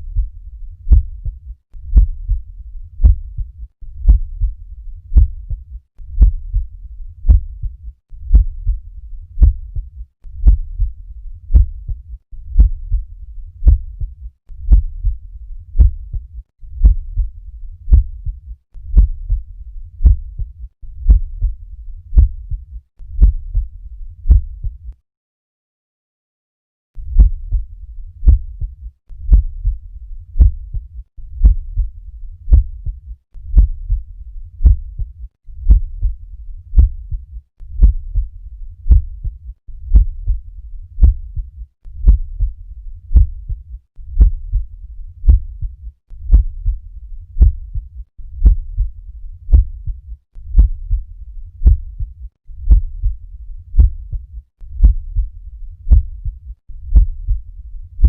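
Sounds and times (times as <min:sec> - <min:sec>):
heartbeat through stethoscope: 0:00.0 - 0:25.0, 0:27.0 - 0:58.0.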